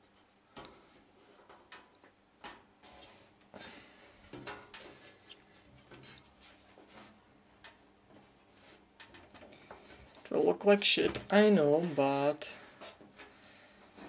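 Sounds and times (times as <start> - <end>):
electrical tape rustling and rubbing: 0.0 - 14.0.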